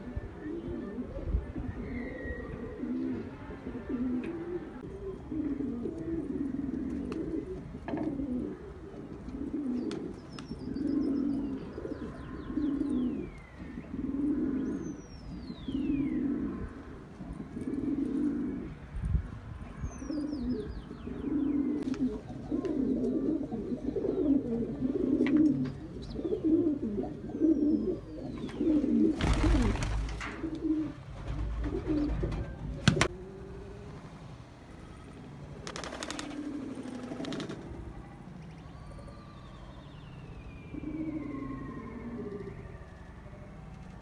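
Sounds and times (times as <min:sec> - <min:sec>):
pigeons cooing: 0:00.0 - 0:18.8, 0:20.0 - 0:34.3, 0:35.6 - 0:37.8, 0:40.7 - 0:42.8.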